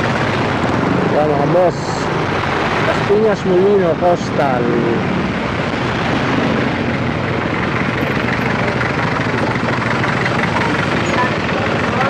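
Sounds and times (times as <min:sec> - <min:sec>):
motorcycle engine drone: 0:00.0 - 0:12.0
road and wind noise: 0:00.0 - 0:12.0.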